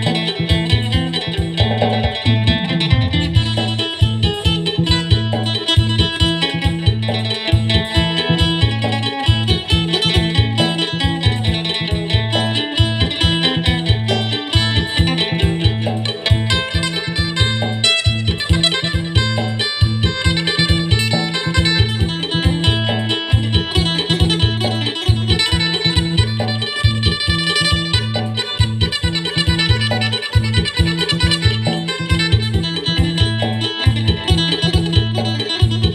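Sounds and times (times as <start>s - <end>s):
low rhythmic pulse: 0.0s - 35.9s
plucked lute melody: 0.0s - 35.9s.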